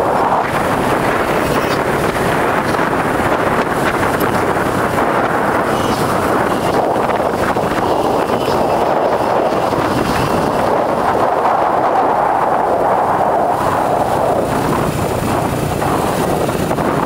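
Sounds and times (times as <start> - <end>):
motorcycle engine: 0.0 - 17.0
tyre noise: 0.0 - 17.0
wind rushing over microphone: 0.0 - 17.0.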